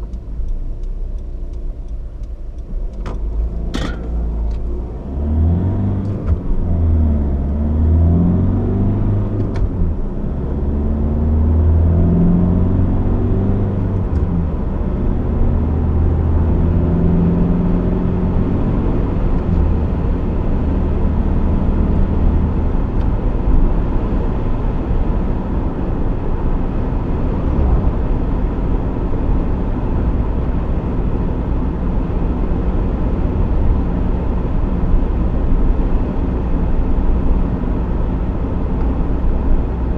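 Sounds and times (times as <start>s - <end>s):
diesel car engine accelerating: 0.0s - 39.9s
tyre and road noise: 2.7s - 16.8s, 19.0s - 39.9s.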